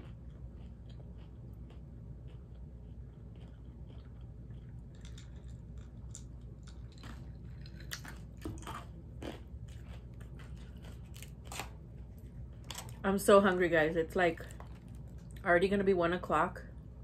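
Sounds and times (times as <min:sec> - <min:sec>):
chewing and swallowing: 0:00.0 - 0:13.0, 0:14.4 - 0:15.4.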